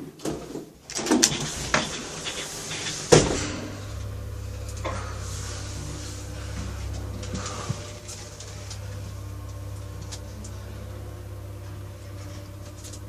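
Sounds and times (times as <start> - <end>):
lift motor low hum: 0.8 - 13.0.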